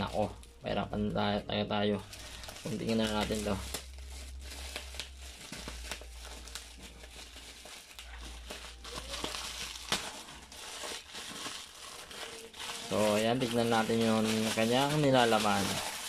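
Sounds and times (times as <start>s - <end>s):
plastic pouch crinkling: 0.0s - 1.1s, 1.8s - 16.0s.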